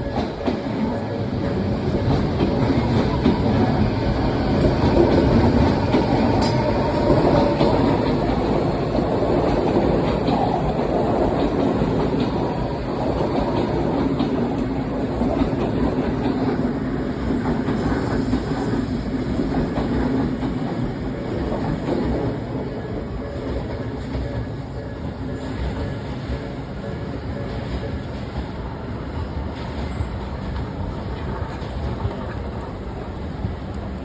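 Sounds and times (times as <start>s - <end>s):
train rumble: 0.0s - 34.0s
train wheels clacking on rail joints: 0.0s - 34.0s.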